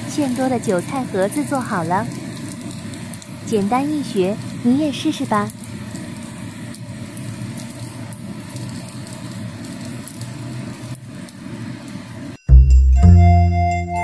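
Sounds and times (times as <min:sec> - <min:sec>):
faint crackles and pops: 0:00.0 - 0:12.4
food sizzling in oil: 0:00.0 - 0:12.5.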